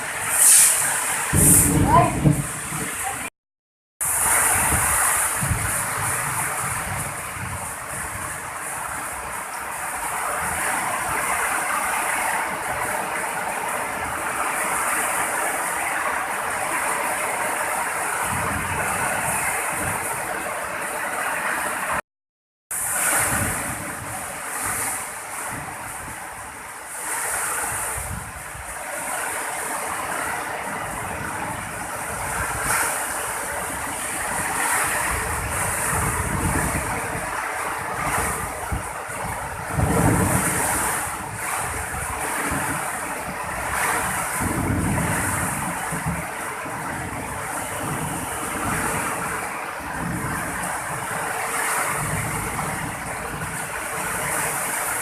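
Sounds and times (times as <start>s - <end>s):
heavy rain pouring: 0.0s - 3.3s, 4.0s - 22.0s, 22.7s - 55.0s
wind rumbling on microphone: 0.0s - 3.3s, 4.0s - 22.0s, 22.7s - 55.0s.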